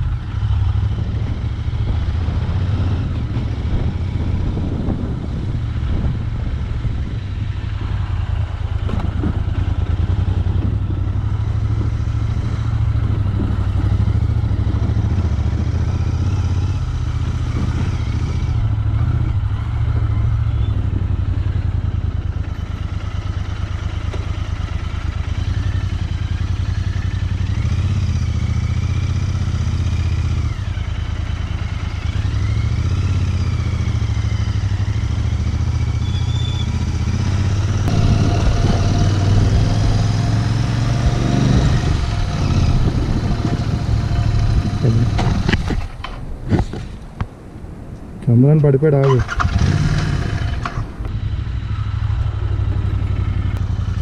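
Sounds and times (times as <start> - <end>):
motorcycle engine running: 0.0 - 46.0, 49.0 - 54.0.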